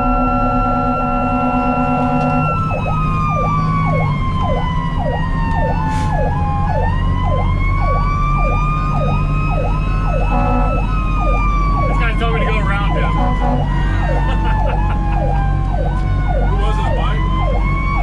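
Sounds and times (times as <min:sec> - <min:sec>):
fire engine droning: 0:00.0 - 0:18.0
siren wailing: 0:00.0 - 0:18.0
siren yelping fast: 0:00.0 - 0:18.0.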